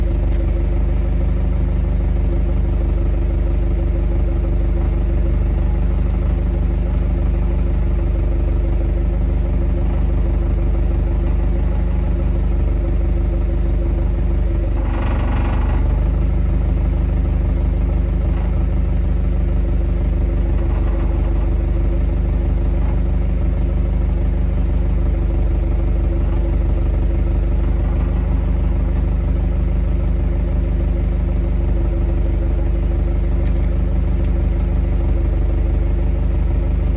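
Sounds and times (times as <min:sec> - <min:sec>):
fast fine rattle: 0:00.0 - 0:36.9
vehicle engine running: 0:00.0 - 0:36.9.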